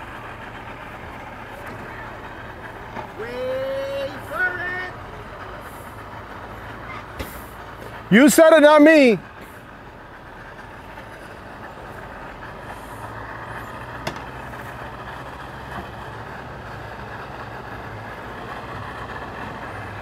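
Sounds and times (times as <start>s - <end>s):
engine idling: 0.0s - 20.0s
outdoor background noise: 0.0s - 20.0s.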